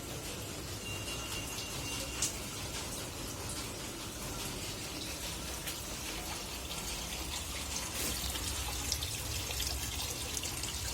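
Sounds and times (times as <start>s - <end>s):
rainwater running into a pit: 0.0s - 10.9s
water drips: 0.0s - 10.9s.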